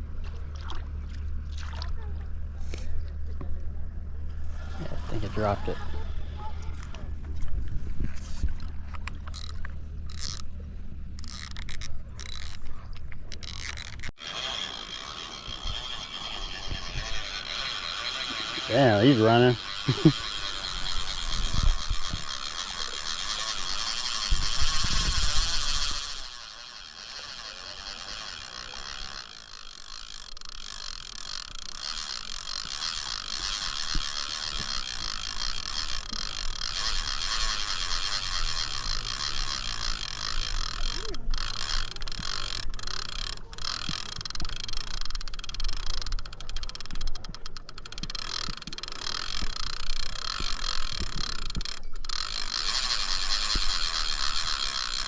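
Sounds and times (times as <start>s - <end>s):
fishing reel clicker ratcheting: 8.9s - 10.5s, 11.2s - 55.0s.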